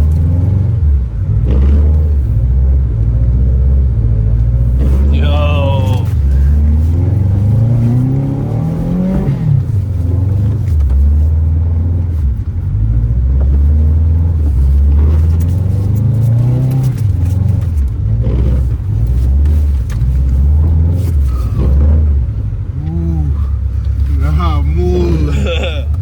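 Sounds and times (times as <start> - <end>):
car engine revving: 0.0 - 26.0
low engine rumble: 0.0 - 26.0.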